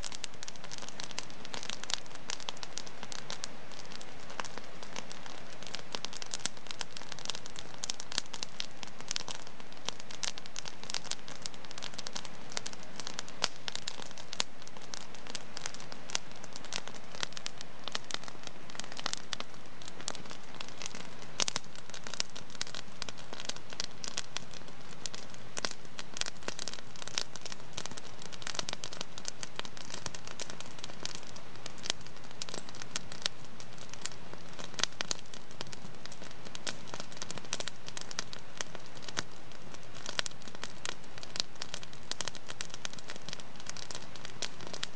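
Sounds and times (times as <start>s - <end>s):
soft hiss of flames: 0.0s - 44.9s
wood fire crackling: 0.0s - 44.9s.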